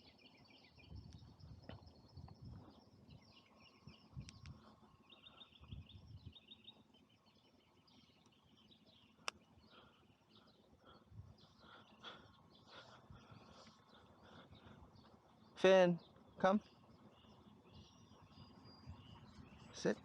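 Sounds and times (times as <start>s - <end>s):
birds chirping and singing: 0.0s - 20.0s.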